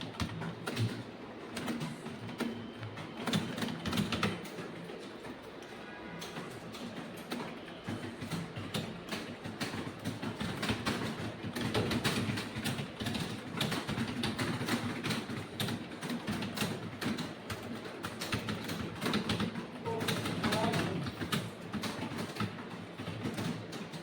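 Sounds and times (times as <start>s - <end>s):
rapid typing on keyboard: 0.0s - 24.0s.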